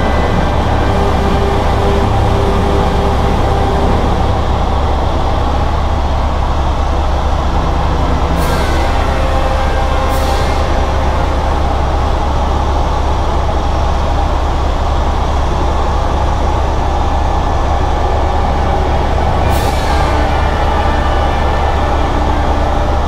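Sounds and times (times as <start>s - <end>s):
constant whine: 0.0s - 23.0s
helicopter rotor and turbine drone: 0.0s - 23.0s.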